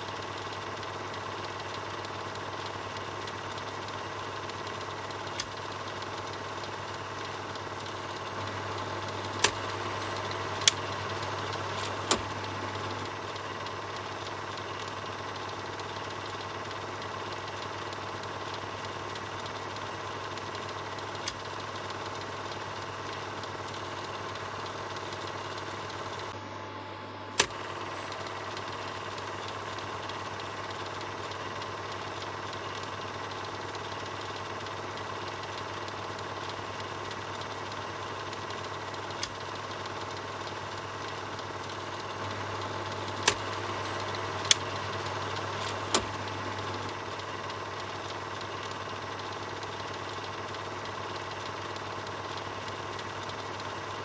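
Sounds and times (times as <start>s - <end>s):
film projector whirring and rattling: 0.0s - 54.0s
sharp clicks: 0.1s - 26.4s, 27.4s - 53.9s.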